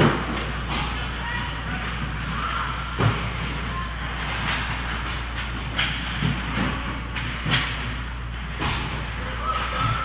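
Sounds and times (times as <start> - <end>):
ice rink background noise: 0.0 - 10.0.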